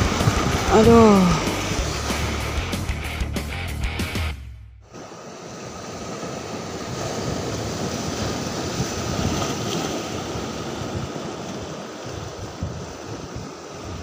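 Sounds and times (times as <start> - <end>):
sea surf washing against rocks: 0.0 - 2.6, 4.8 - 14.0
wind rumbling on microphone: 0.0 - 2.7, 4.9 - 14.0.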